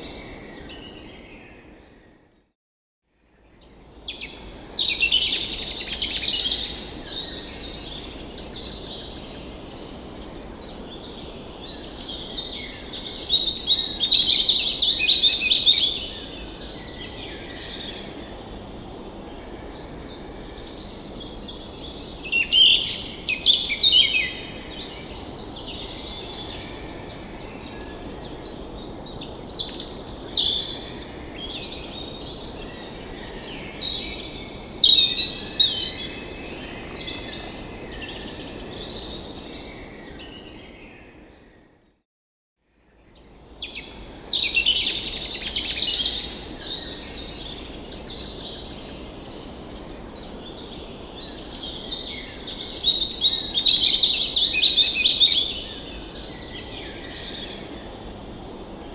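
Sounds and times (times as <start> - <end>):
songbirds singing and chirping: 3.6 - 41.7, 43.0 - 58.9.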